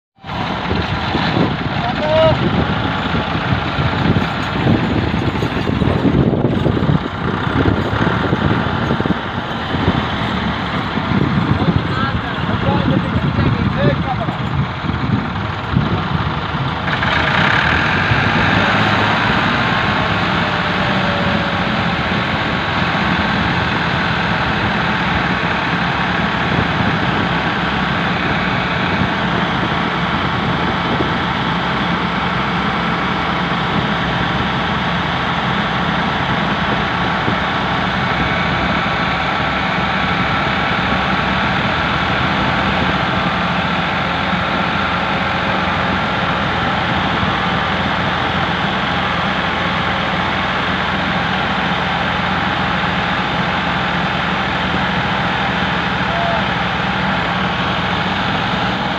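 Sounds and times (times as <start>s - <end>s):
tractor diesel engines under load: 0.1s - 58.9s.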